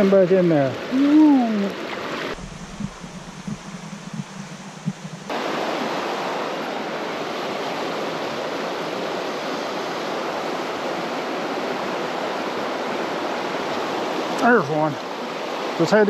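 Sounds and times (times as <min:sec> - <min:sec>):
stream rushing over stones: 0:00.1 - 0:16.0.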